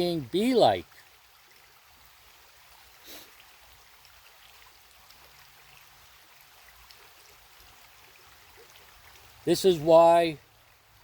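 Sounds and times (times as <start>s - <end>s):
creek flowing: 0.0s - 11.0s.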